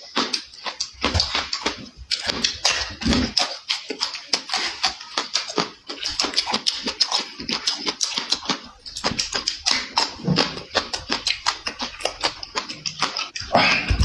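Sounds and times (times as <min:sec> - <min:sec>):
person chewing with mouth open: 0:00.0 - 0:14.0.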